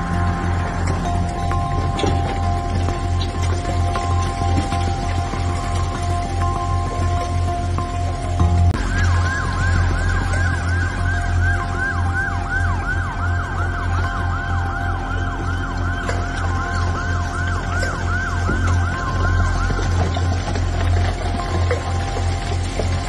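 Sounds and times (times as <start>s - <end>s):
emergency vehicle siren: 0.0s - 23.0s
low steady hum: 0.0s - 23.0s.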